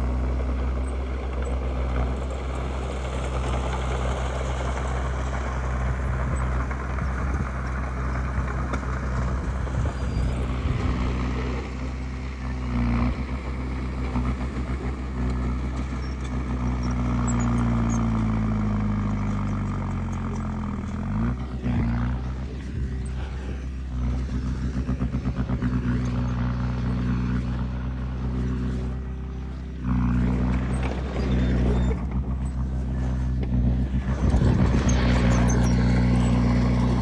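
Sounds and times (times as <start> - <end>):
heavy machinery diesel engine: 0.0 - 37.0.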